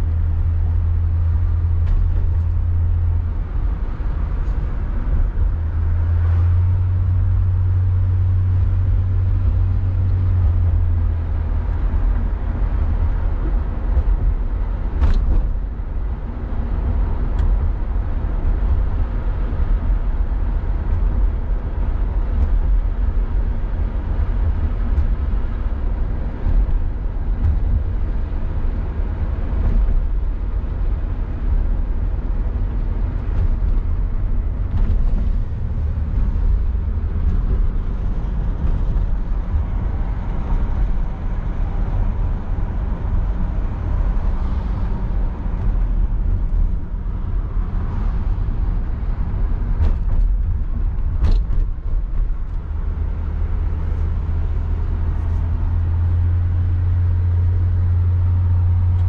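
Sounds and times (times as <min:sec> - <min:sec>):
car engine running: 0:00.0 - 0:59.0
tyre and road noise: 0:00.0 - 0:59.0.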